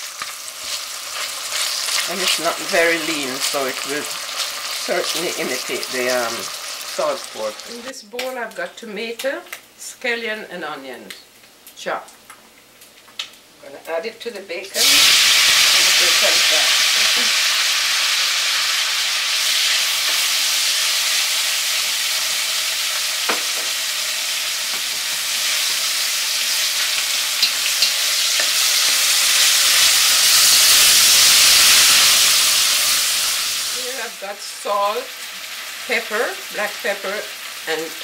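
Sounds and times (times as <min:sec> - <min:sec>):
vegetables sizzling in fat: 0:00.0 - 0:10.0, 0:11.7 - 0:38.0.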